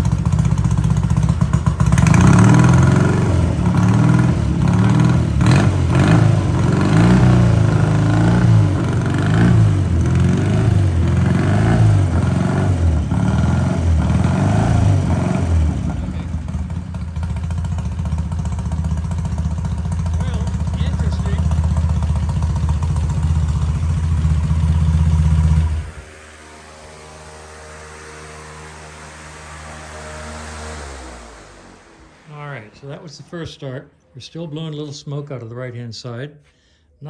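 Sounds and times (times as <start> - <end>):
motorcycle engine revving and idling: 0.0 - 33.0.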